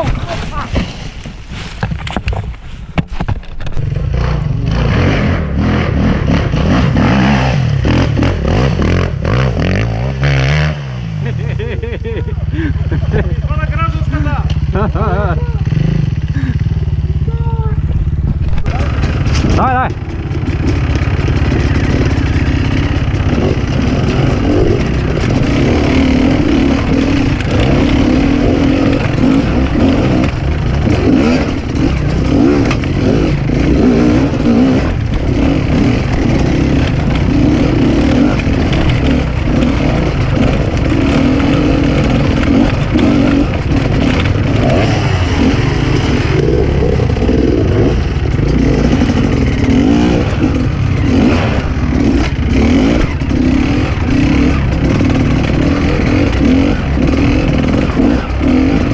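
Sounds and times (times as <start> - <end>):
dirt bike engine revving: 3.7 - 58.9.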